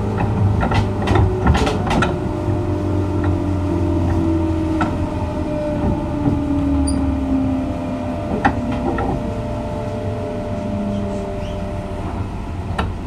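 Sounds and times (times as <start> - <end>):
electric train rumbling: 0.0 - 13.0
whining tone sliding down: 1.0 - 12.4.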